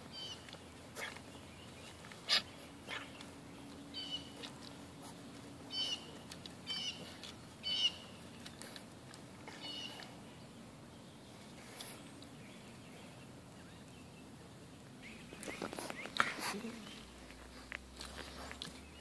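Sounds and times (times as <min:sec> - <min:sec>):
bird chirping: 0:00.0 - 0:04.8, 0:05.6 - 0:08.8, 0:09.5 - 0:17.6.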